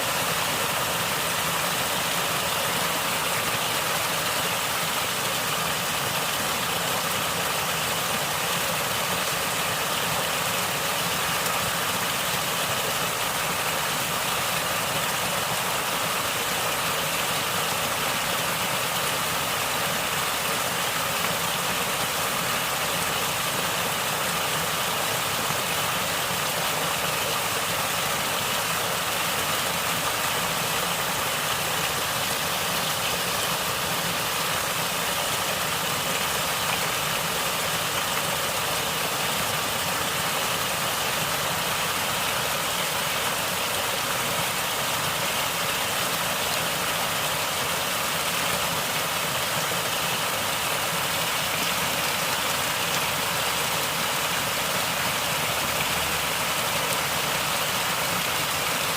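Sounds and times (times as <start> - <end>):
stream water flowing and gurgling: 0.0 - 58.9.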